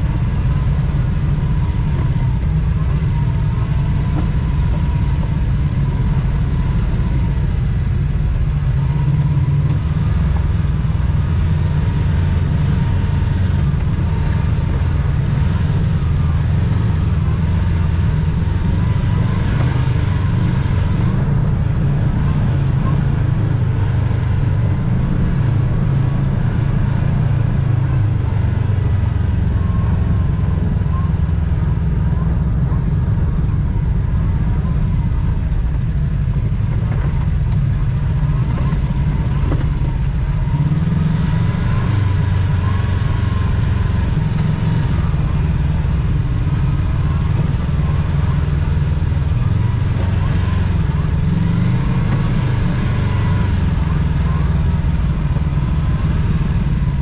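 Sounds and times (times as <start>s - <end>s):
utility vehicle engine running: 0.0s - 57.0s.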